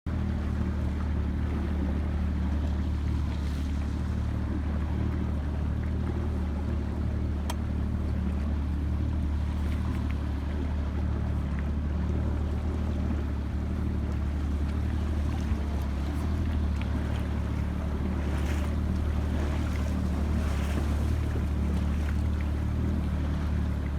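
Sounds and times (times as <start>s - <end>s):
boat engine humming: 0.1s - 23.9s.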